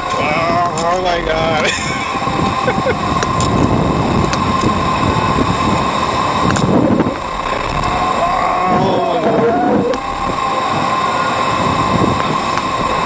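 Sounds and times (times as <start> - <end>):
steady high tone: 0.0 - 13.0
wind buffeting microphone: 0.0 - 13.0.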